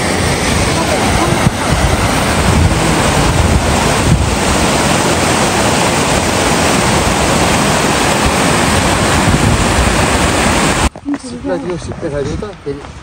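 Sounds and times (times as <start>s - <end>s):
stream rushing over boulders: 0.0s - 13.0s.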